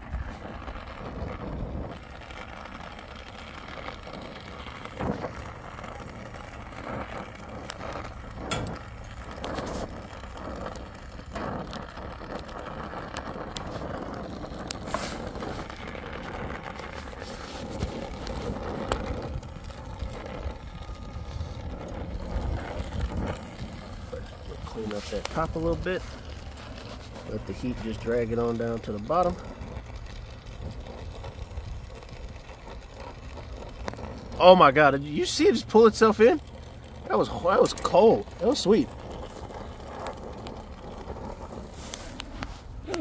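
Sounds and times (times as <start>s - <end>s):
torch flame hissing: 0.0s - 43.0s.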